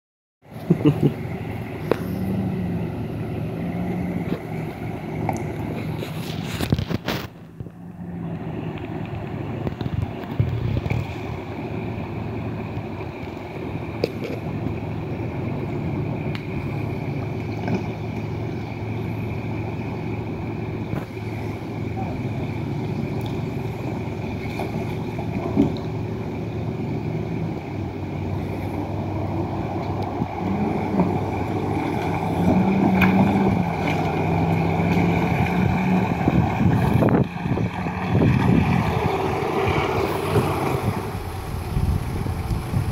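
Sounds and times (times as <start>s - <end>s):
engine running at low speed: 0.4s - 42.9s.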